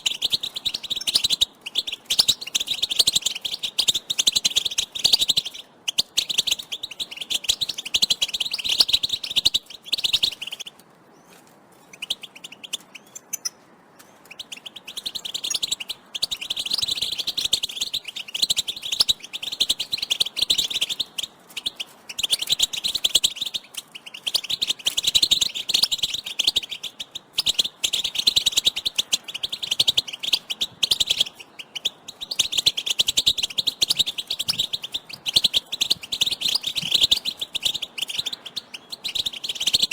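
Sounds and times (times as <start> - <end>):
finches twittering chirps: 0.0 - 10.8, 11.8 - 39.9.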